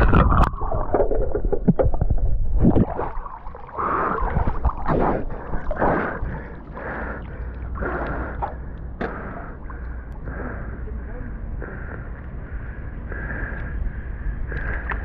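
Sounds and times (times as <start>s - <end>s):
water sloshing and gurgling: 0.0s - 10.4s, 12.4s - 15.0s.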